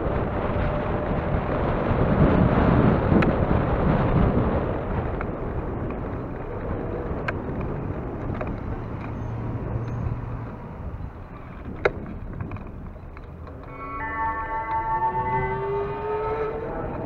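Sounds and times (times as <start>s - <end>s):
traffic rush: 0.0s - 17.0s.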